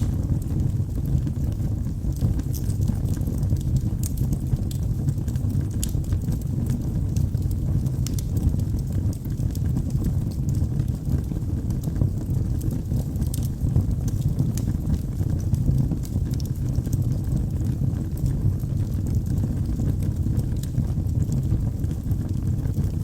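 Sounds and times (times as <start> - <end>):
fire crackling and popping: 0.0 - 23.0
fire rumbling: 0.0 - 23.0.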